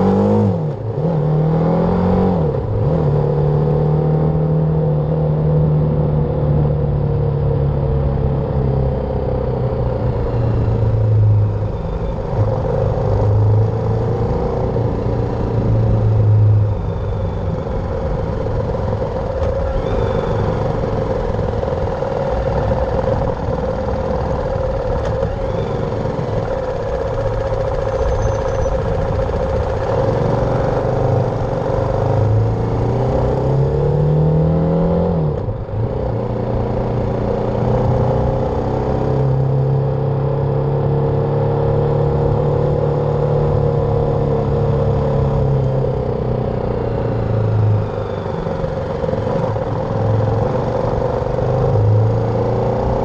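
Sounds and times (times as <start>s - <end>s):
motorcycle engine under way: 0.0s - 53.0s.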